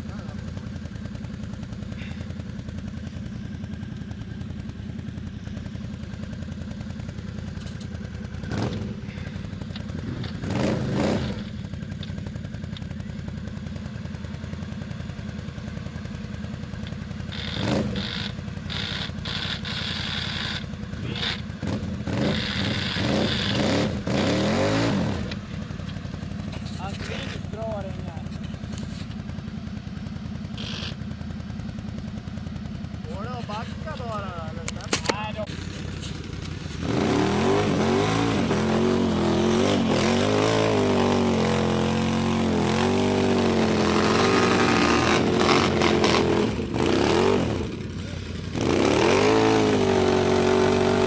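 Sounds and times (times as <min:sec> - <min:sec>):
atv engine running and revving: 0:00.0 - 0:51.0.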